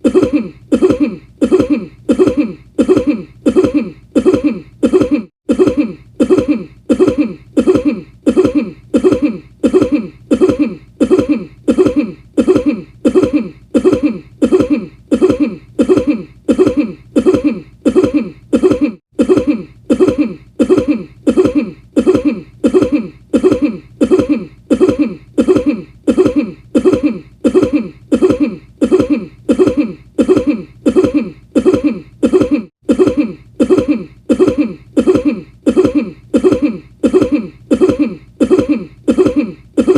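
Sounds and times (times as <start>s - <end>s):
person coughing: 0.0s - 39.9s.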